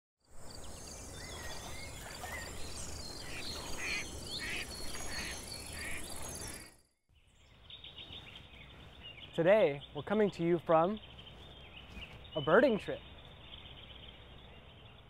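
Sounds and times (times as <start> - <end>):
quiet outdoor ambience: 0.2 - 15.0
birds chirping: 0.3 - 15.0.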